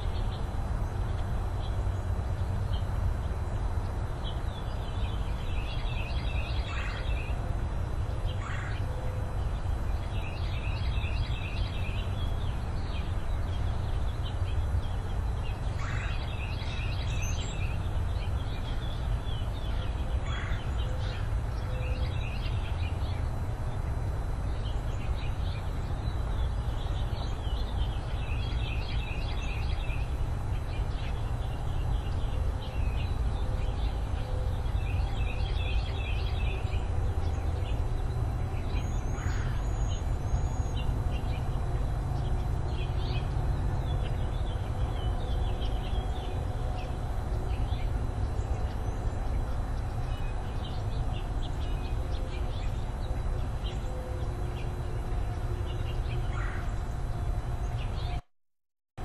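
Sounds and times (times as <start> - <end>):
small birds chirping: 0.0 - 58.2.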